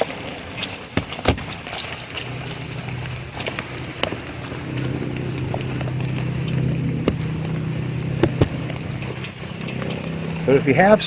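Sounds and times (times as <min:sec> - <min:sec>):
steady rain falling: 0:00.0 - 0:11.0
low steady drone: 0:01.8 - 0:11.0.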